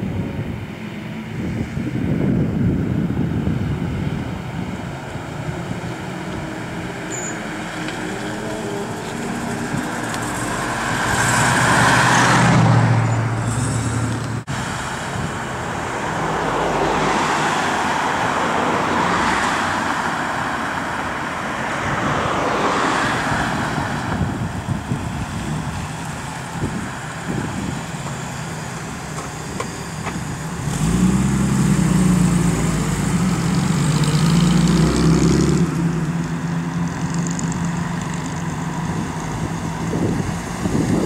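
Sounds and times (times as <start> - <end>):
cars passing by: 0.0 - 41.0.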